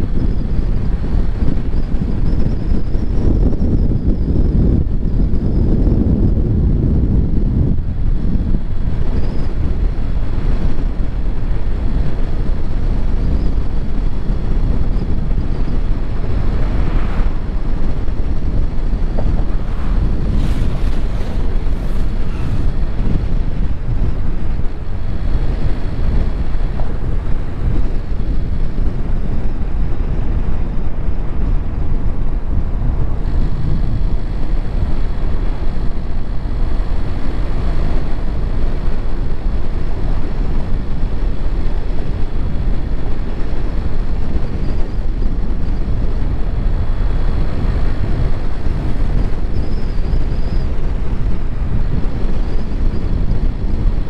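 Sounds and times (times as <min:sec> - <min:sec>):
car road noise rumble: 0:00.0 - 0:54.0
wind buffeting microphone: 0:00.0 - 0:54.0.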